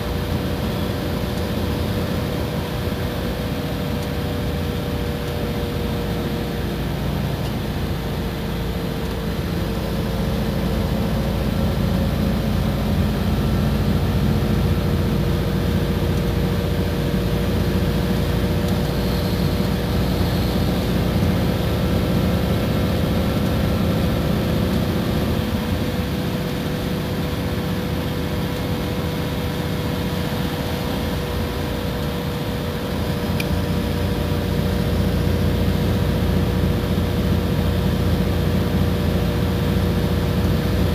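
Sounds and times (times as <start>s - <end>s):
bus engine droning: 0.0s - 40.9s
engine whine: 0.0s - 40.9s.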